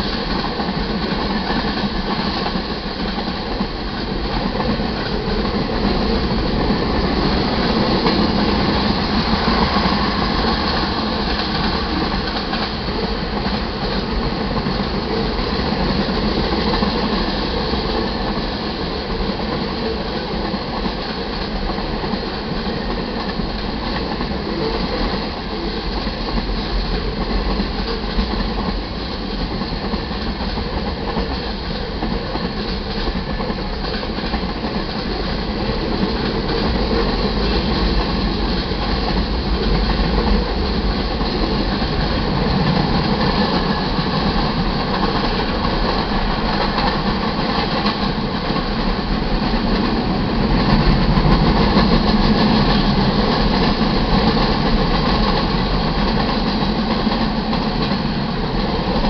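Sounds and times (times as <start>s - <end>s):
steel wheels running on rails: 0.0s - 59.0s.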